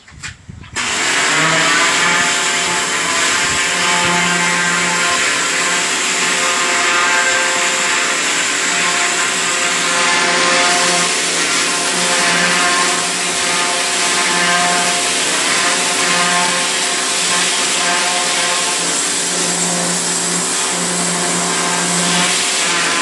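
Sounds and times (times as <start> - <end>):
loud hiss: 0.8 - 23.0
machine motor humming: 0.8 - 23.0.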